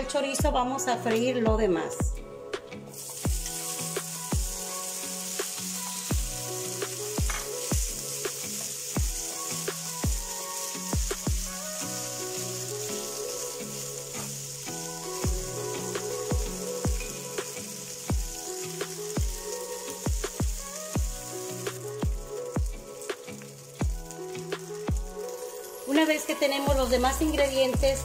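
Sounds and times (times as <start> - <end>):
background music with a beat: 0.0 - 28.0
spatula stirring in a pan: 2.9 - 25.8
meat sizzling in a skillet: 2.9 - 28.0.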